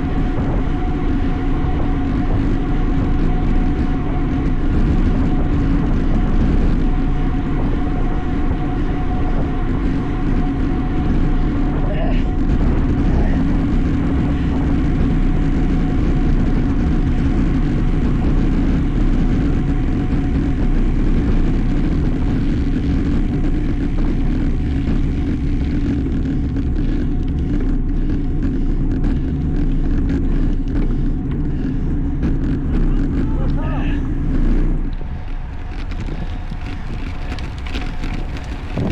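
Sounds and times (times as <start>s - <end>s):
wind and road noise rumble: 0.0s - 38.9s.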